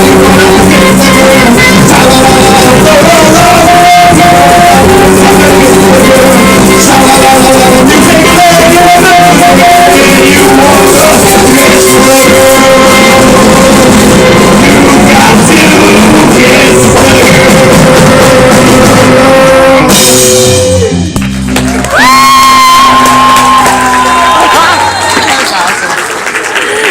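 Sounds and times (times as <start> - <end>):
live rock band playing: 0.0 - 23.8.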